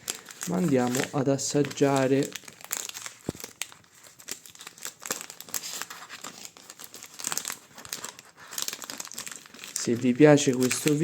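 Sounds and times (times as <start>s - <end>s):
plastic candy bag crinkling: 0.0s - 11.0s.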